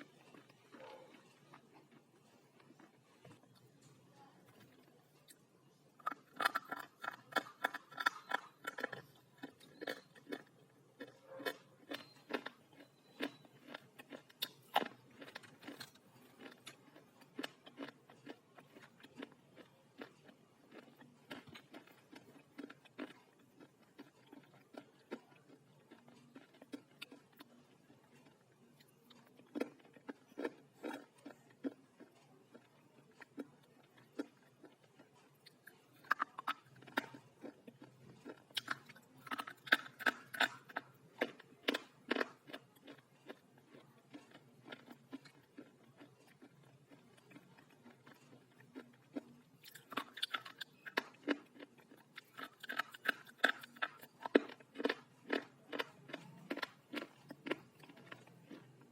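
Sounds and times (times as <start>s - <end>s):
slate being chewed crunching: 6.0s - 58.9s.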